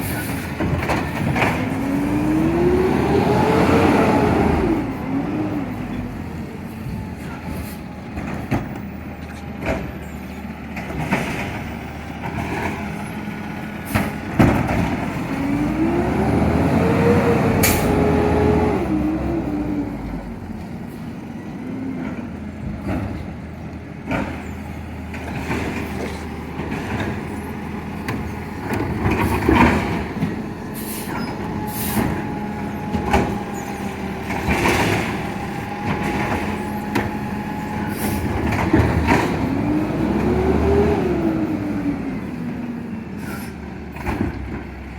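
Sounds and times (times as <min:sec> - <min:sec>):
garbage truck running: 0:00.0 - 0:44.9.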